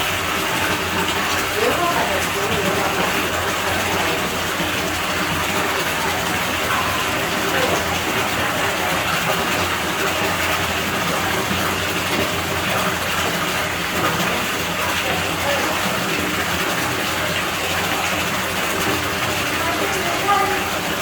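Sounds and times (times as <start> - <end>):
water flowing in pool: 0.0 - 21.0.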